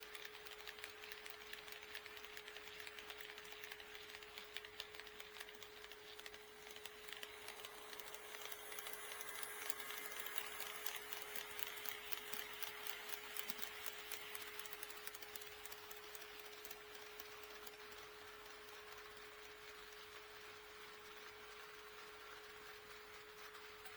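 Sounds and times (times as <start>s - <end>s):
model train wheels clicking: 0.0s - 23.9s.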